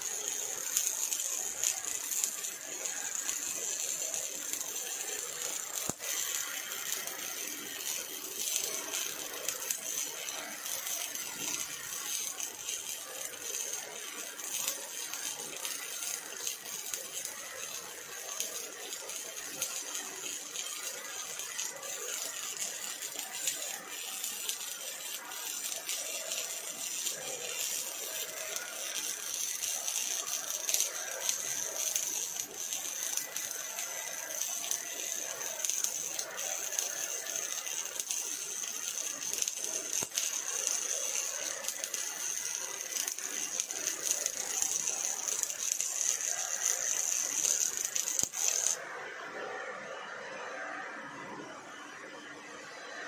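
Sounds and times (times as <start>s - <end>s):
welding arc crackling: 0.0s - 48.9s.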